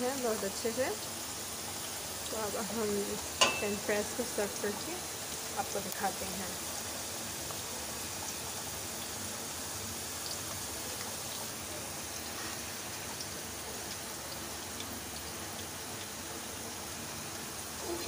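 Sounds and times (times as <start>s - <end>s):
fries sizzling in hot oil: 0.0s - 18.0s.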